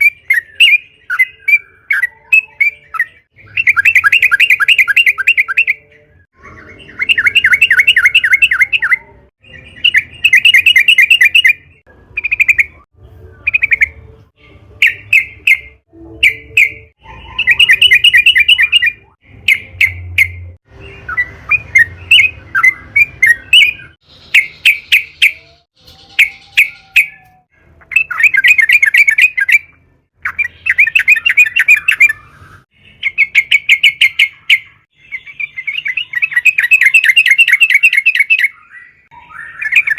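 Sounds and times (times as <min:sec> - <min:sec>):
bird singing bubbling chatter: 0:00.0 - 0:39.9.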